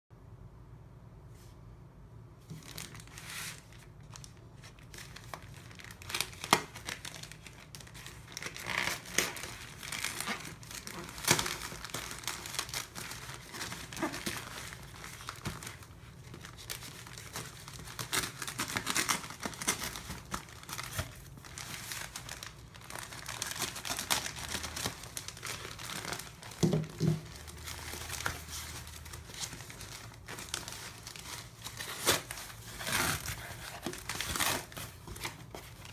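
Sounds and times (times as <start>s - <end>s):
plastic bag crinkling: 2.5s - 35.9s.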